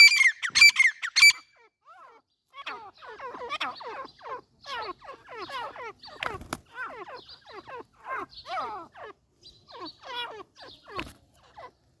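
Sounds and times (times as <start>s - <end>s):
partridge calling: 0.0s - 11.8s.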